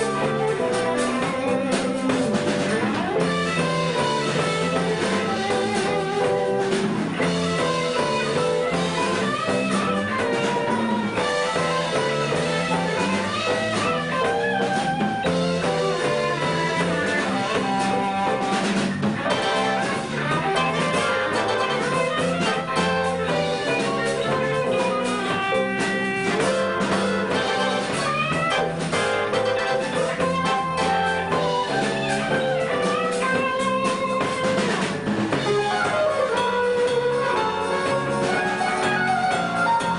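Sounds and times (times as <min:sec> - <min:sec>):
bass: 0:00.0 - 0:39.9
drum kit: 0:00.0 - 0:39.9
keyboards: 0:00.0 - 0:39.9
lead guitar: 0:00.0 - 0:39.9.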